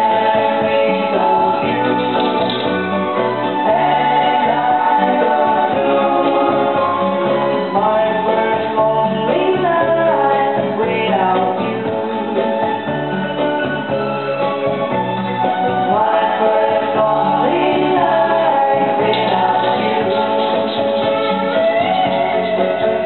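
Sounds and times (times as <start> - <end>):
vocal music on vinyl record: 0.0 - 13.6, 15.3 - 23.0.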